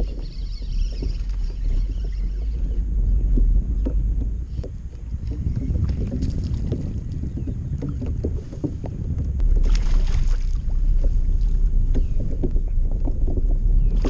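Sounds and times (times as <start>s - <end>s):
water lapping against kayak: 0.0s - 14.0s
wind rumble on microphone: 0.0s - 14.0s.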